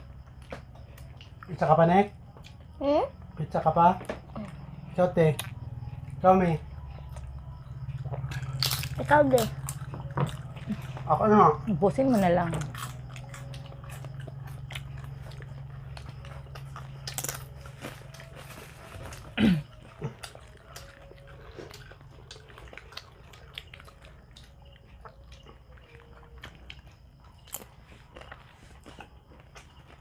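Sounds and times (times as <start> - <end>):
low steady hum: 0.0 - 30.0
people chewing crunchy food: 0.0 - 30.0.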